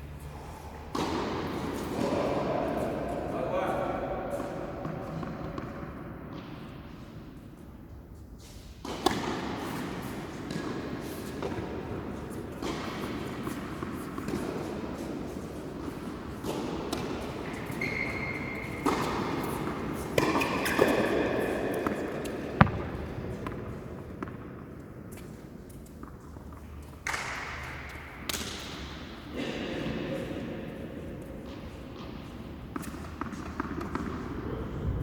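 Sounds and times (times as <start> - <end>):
steady background noise: 0.0 - 35.0
tennis racquets hitting ball: 0.8 - 3.4, 4.0 - 7.4, 8.8 - 34.5
tennis ball bouncing on court: 0.9 - 3.2, 4.3 - 7.1, 8.8 - 29.2, 31.3 - 34.4.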